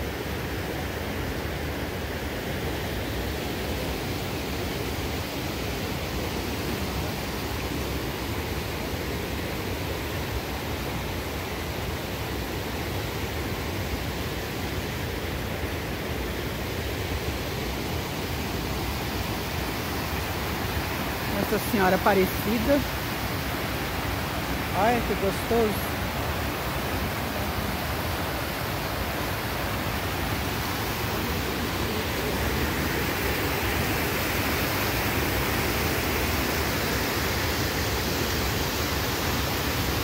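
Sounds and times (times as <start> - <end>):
water rushing over spillway: 0.0 - 40.0.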